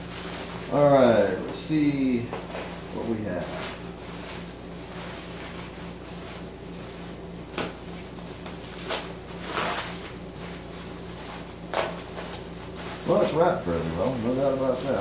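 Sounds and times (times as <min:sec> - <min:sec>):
packing wrap rustling: 0:00.0 - 0:15.0
steady low hum: 0:00.0 - 0:15.0.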